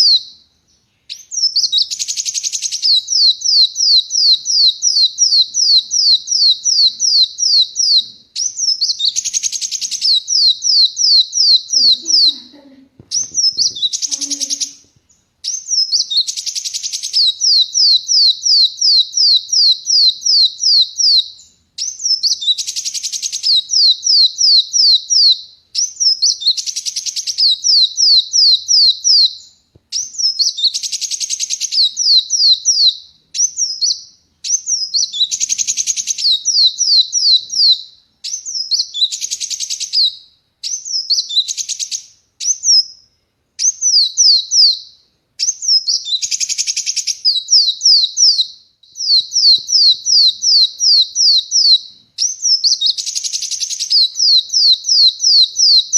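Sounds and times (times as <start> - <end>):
sunbird singing: 0.0 - 55.9.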